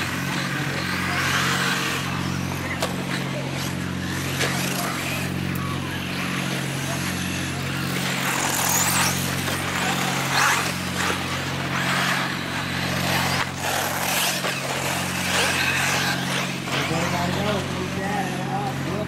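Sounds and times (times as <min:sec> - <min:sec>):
rc car motors whining: 0:00.0 - 0:19.0
steady low hum: 0:00.0 - 0:19.0.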